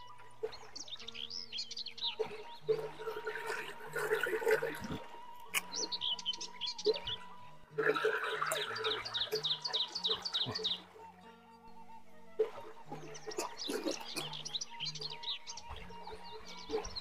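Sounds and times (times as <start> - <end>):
birds chirping: 0.0 - 17.0
soft music with bass line: 0.0 - 17.0.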